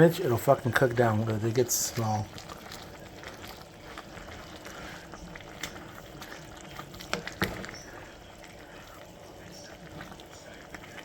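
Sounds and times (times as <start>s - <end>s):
soup boiling and bubbling: 0.0s - 11.0s.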